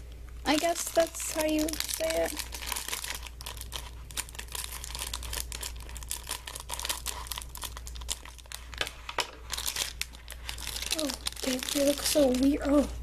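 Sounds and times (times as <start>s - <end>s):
plastic wrapper crinkling: 0.4s - 13.0s.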